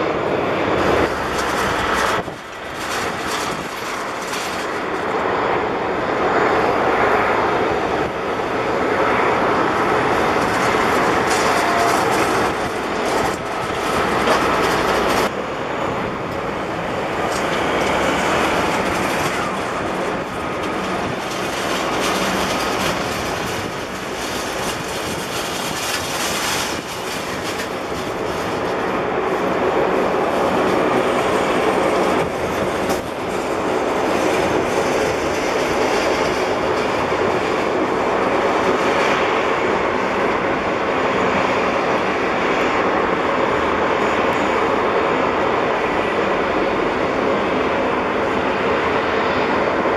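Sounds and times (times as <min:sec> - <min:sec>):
turboprop engines droning: 0:00.0 - 0:49.9.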